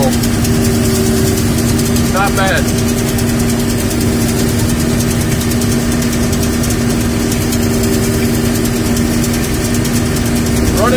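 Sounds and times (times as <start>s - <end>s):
combine engine and threshing drone: 0.0s - 10.9s
fast even ticking: 0.0s - 10.9s.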